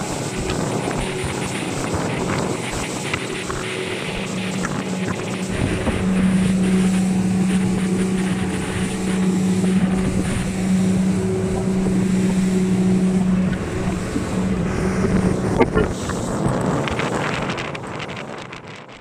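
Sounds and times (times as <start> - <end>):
water rushing: 0.0 - 18.9
wind rushing: 0.0 - 18.9
motorboat engines humming: 0.0 - 19.0.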